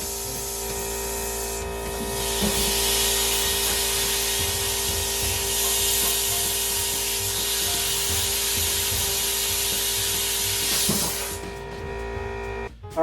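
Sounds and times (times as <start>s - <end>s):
compressed air hissing: 0.0s - 11.6s.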